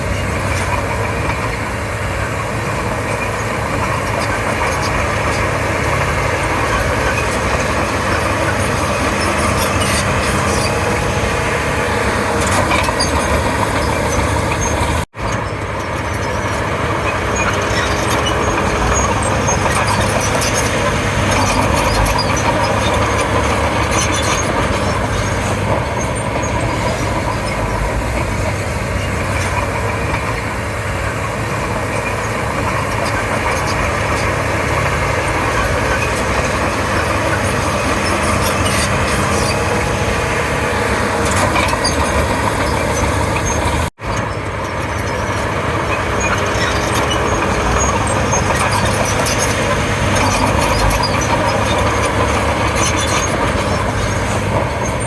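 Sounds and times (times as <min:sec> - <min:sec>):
bulldozer diesel engine running: 0:00.0 - 0:55.0
track and blade noise: 0:00.0 - 0:55.0.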